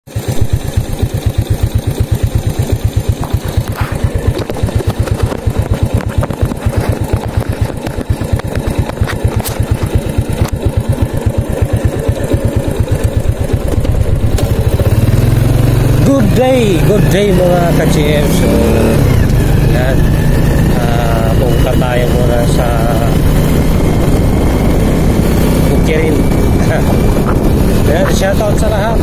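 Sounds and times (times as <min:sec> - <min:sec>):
motorcycle engine idling: 0:00.1 - 0:29.0
motorcycle pulling away: 0:00.1 - 0:29.0.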